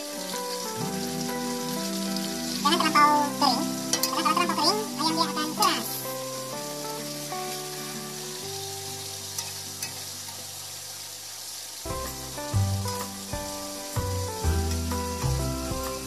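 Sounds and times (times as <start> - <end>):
background music: 0.0 - 10.0, 11.9 - 16.0
chicken sizzling in hot oil: 0.0 - 16.0.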